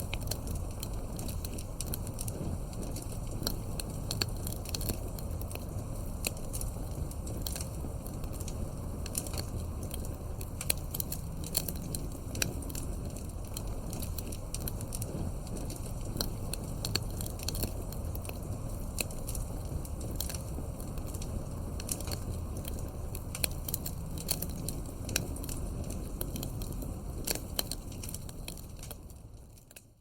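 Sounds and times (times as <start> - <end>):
flames rumbling: 0.0 - 30.0
wood fire crackling: 0.0 - 30.0.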